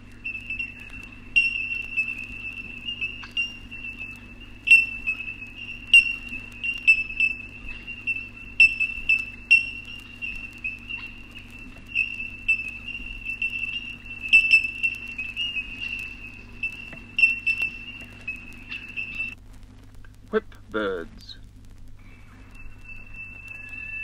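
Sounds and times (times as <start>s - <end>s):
bellbirds calling: 0.0s - 19.4s, 22.0s - 24.0s.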